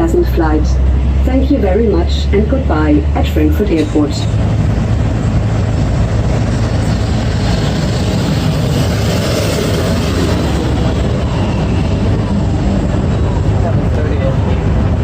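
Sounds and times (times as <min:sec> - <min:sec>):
bus engine and road rumble: 0:00.0 - 0:15.0
constant low hum: 0:00.0 - 0:15.0.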